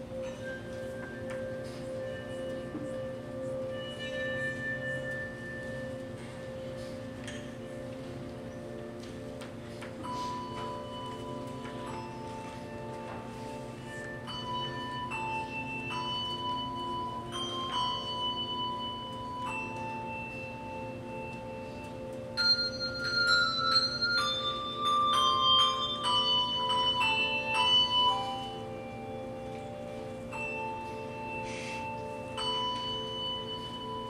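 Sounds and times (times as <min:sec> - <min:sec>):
handbell choir playing hymn: 0:00.0 - 0:34.0.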